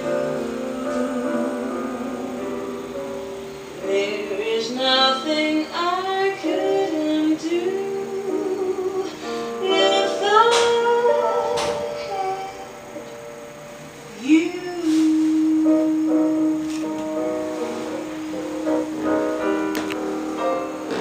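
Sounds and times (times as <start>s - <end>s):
woman singing: 0.0s - 3.0s, 3.8s - 13.1s, 14.1s - 21.0s.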